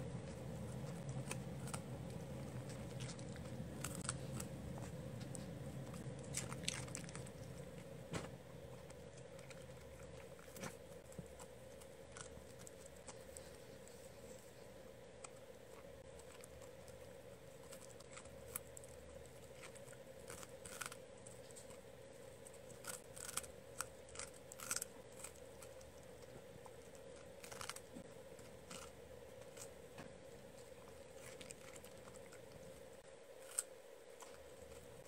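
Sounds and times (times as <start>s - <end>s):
dog chewing stick: 0.0s - 35.0s
steady low hum: 0.0s - 35.0s.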